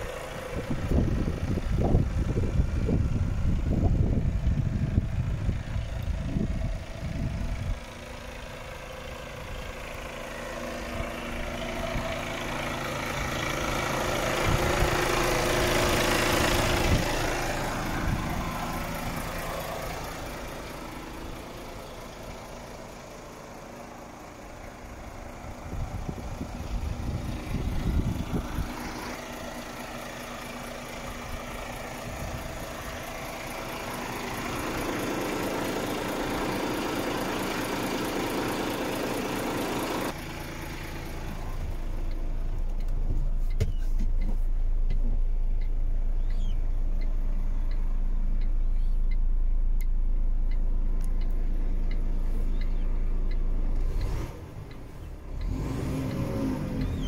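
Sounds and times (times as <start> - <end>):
truck diesel engine idling: 0.0 - 57.0.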